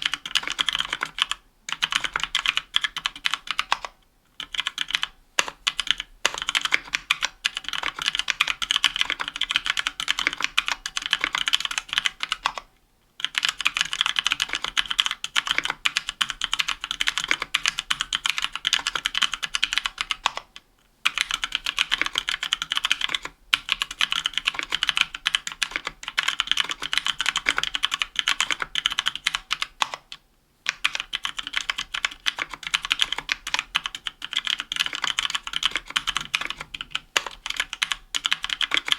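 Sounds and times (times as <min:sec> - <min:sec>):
fast typing on mechanical keyboard: 0:00.0 - 0:20.5, 0:21.1 - 0:30.1, 0:30.7 - 0:38.9.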